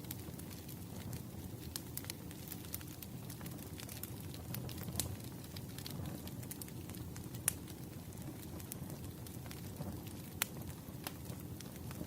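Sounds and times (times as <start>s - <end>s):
low rumble of flames: 0.0s - 12.0s
small fire crackles: 0.0s - 12.0s.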